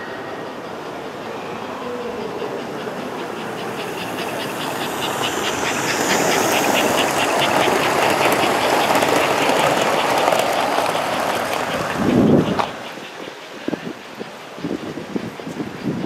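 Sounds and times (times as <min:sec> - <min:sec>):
model train rumbling: 0:00.0 - 0:16.0
wheels clicking over rail joints: 0:02.0 - 0:16.0.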